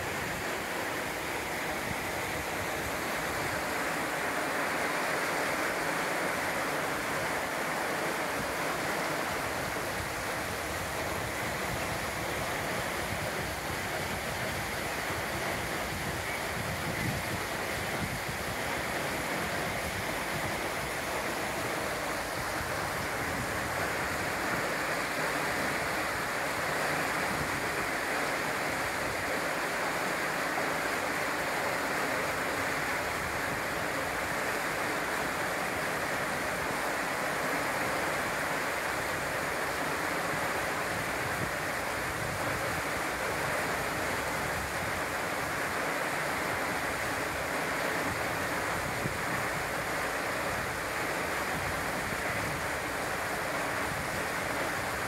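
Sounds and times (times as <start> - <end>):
river water rushing over weir: 0.0 - 55.0.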